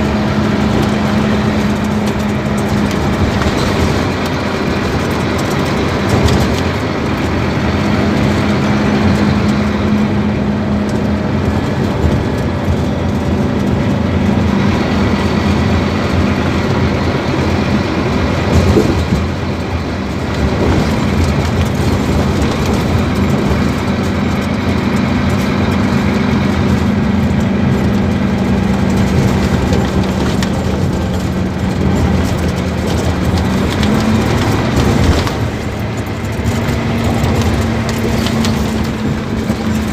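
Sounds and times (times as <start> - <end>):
bus diesel engine droning: 0.0 - 39.9
road and body rattle: 0.0 - 39.9.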